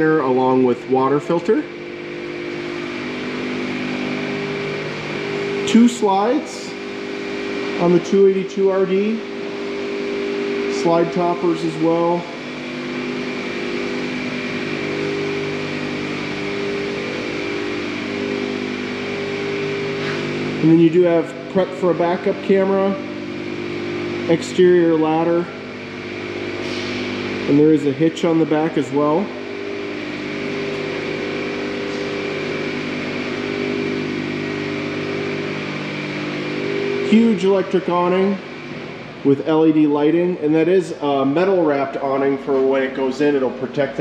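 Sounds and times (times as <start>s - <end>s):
steady engine drone: 0.0s - 44.0s.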